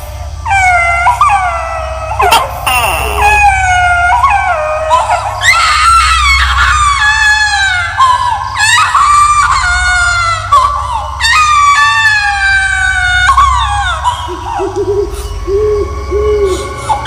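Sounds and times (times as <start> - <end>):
low steady rumble: 0.0 - 17.0
baby crying wails: 0.5 - 14.9.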